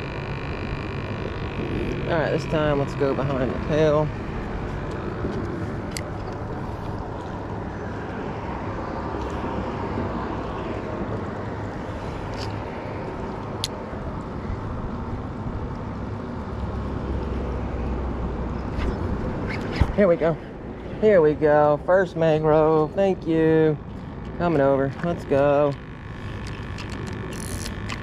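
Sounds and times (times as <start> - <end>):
road traffic rumble: 0.0 - 28.0
wind: 0.0 - 28.0.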